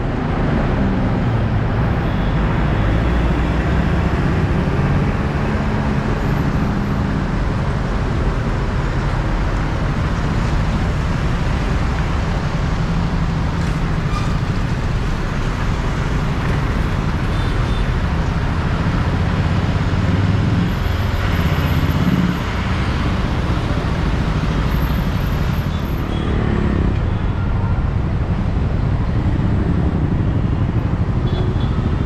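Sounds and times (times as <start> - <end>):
surrounding traffic: 0.0 - 32.0
vehicle engine and tyre drone: 0.0 - 32.0.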